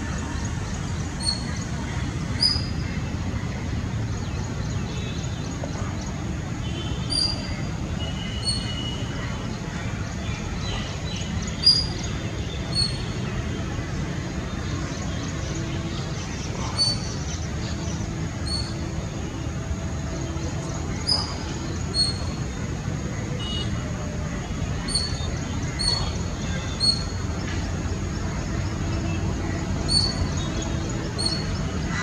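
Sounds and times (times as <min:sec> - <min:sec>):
bird chirping: 0:00.0 - 0:03.1, 0:04.1 - 0:19.4, 0:20.1 - 0:22.8, 0:24.7 - 0:32.0.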